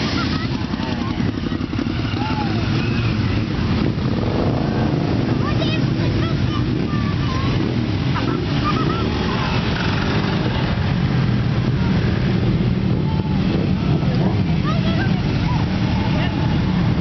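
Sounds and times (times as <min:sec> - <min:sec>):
faint voices: 0:00.0 - 0:17.0
motorcycle engines passing: 0:00.0 - 0:17.0.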